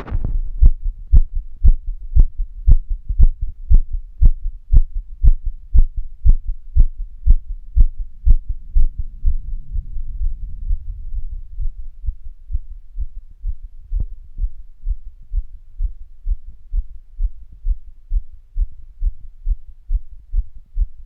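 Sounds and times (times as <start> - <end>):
fast heartbeat: 0.0 - 21.0
low rumbling noise: 0.0 - 21.0.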